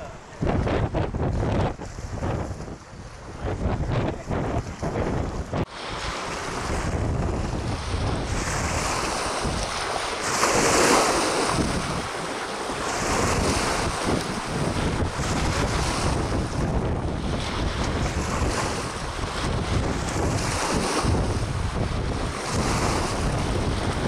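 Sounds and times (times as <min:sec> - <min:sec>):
water lapping against boats: 0:00.0 - 0:24.0
wind buffeting microphone: 0:00.0 - 0:24.0.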